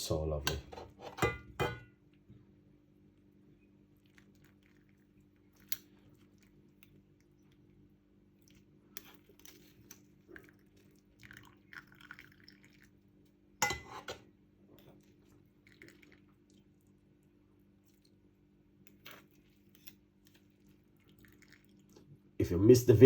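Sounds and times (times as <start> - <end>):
faint steady hum: 0.0 - 23.0
soft liquid sounds: 3.0 - 23.0.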